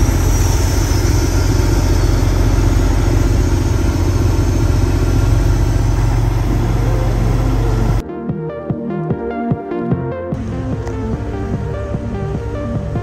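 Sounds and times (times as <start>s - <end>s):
diesel truck engine running: 0.0s - 8.0s, 10.4s - 13.0s.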